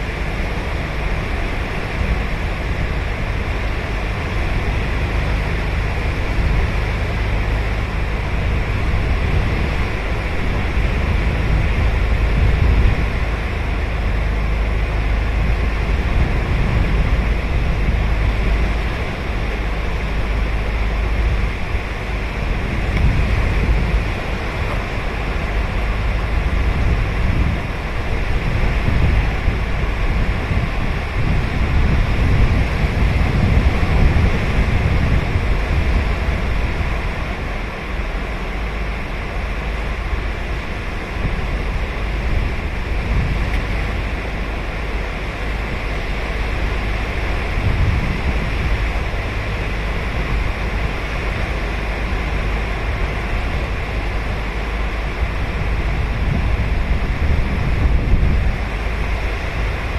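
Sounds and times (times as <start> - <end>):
ocean surf breaking on sand: 0.0 - 59.9
wind rumbling on microphone: 0.0 - 59.9.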